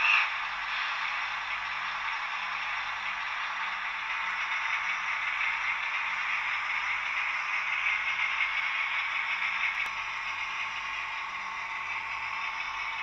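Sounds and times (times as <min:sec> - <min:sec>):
model train rolling and motor whir: 0:00.0 - 0:13.0.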